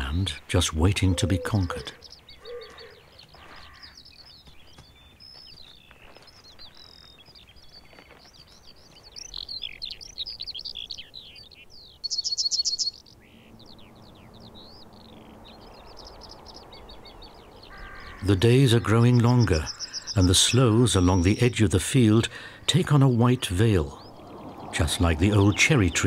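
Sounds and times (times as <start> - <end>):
skylark singing: 0.0 - 26.0.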